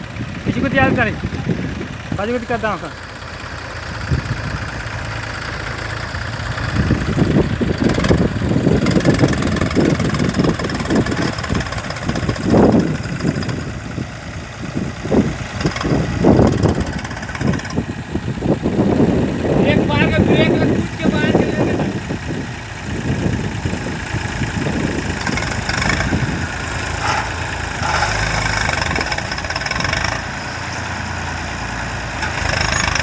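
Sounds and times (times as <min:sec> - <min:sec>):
engine running: 0:00.0 - 0:33.0.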